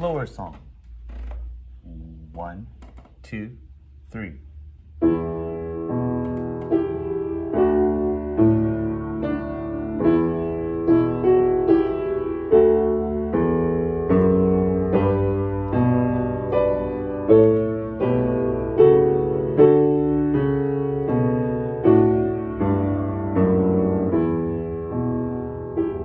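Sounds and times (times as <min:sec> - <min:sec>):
piano chords: 0:04.8 - 0:26.0.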